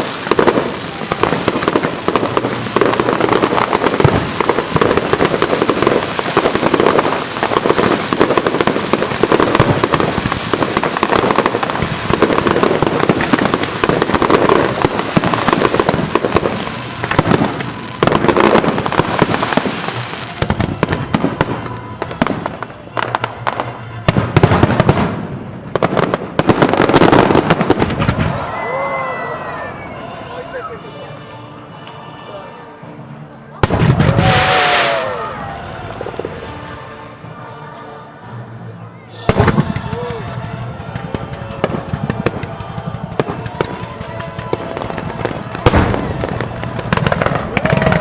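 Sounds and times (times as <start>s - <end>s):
aerial fireworks booming and crackling: 0.0s - 29.4s, 33.6s - 36.7s, 39.1s - 48.0s.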